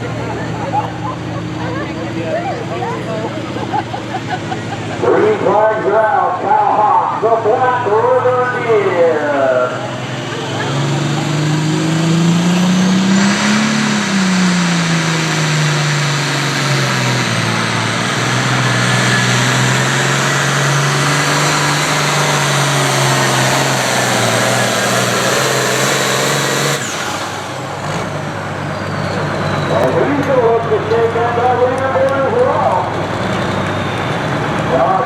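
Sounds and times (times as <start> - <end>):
vehicle engine at full throttle: 0.0 - 35.0.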